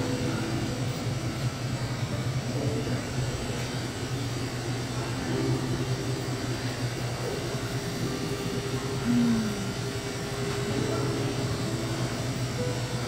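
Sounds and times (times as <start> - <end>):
low mechanical hum: 0.0 - 13.0
room noise hiss: 0.0 - 13.0.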